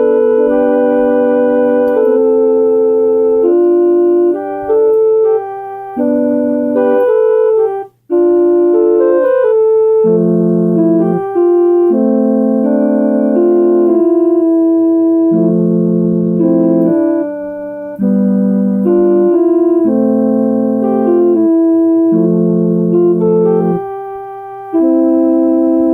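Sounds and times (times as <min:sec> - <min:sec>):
electronic keyboard chords: 0:00.0 - 0:25.9.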